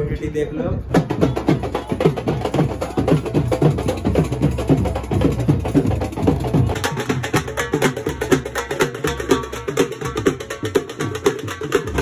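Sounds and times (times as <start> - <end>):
dhol drums playing fast rhythm: 0.9 - 12.0.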